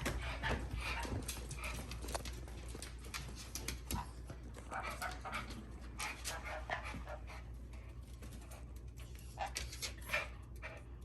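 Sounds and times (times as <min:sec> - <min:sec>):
dog claws clicking on floor: 0:00.0 - 0:11.0.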